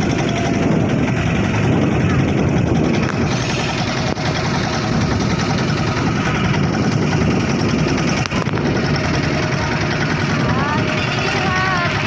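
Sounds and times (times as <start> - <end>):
motorboat engine running: 0.0 - 12.0
rushing noise: 0.0 - 12.0.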